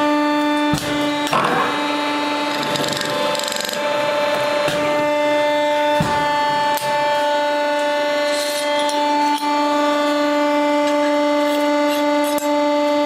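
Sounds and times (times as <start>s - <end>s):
welding machine whine: 0.0s - 13.0s.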